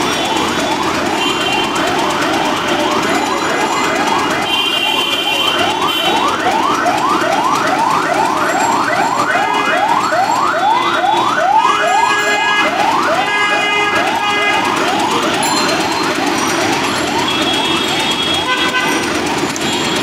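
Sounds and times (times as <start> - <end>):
rising siren-like tone: 0.0 - 18.5
street noise: 0.0 - 20.0.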